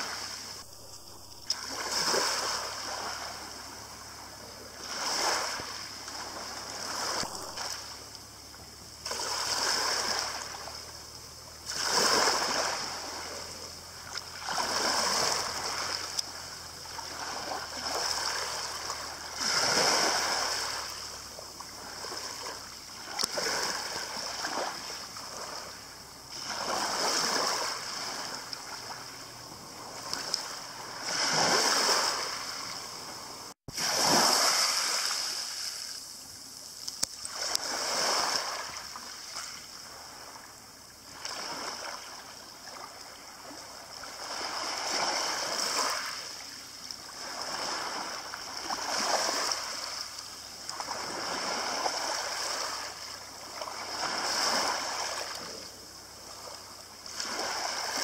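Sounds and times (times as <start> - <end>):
small waves on pebble beach: 0.0 - 58.0.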